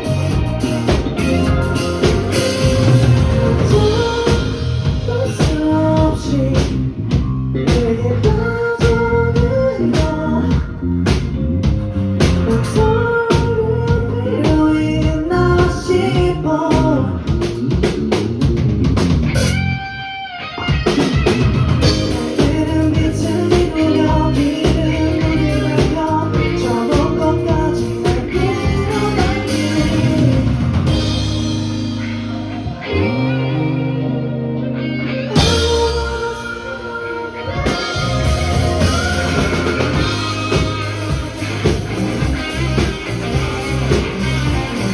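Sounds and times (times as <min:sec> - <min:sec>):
person singing: 0:00.0 - 0:07.0, 0:07.6 - 0:11.3, 0:12.2 - 0:17.7, 0:21.8 - 0:44.9
drum kit: 0:00.0 - 0:33.2, 0:35.3 - 0:44.9
electric guitar: 0:00.0 - 0:44.9.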